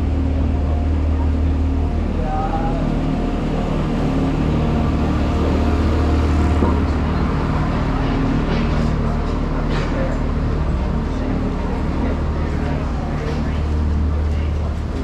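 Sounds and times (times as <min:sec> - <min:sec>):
city street traffic: 0:00.0 - 0:15.0
vehicle engine humming nearby: 0:00.0 - 0:15.0.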